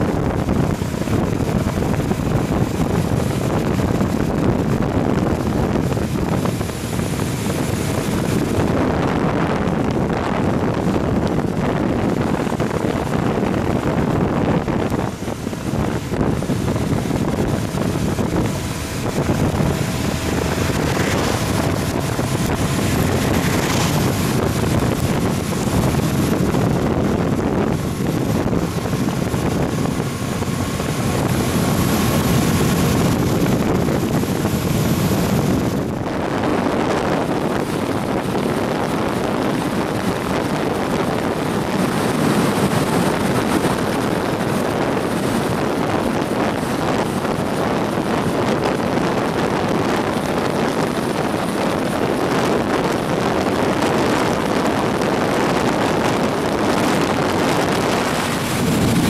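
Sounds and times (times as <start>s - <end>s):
moving vehicle drone: 0.0s - 59.0s
wind noise on microphone: 0.0s - 59.0s.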